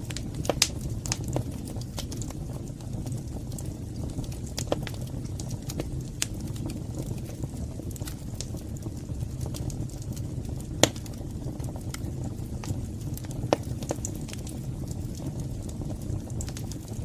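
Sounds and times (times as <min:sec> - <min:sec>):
fire burning in fireplace: 0:00.0 - 0:17.0.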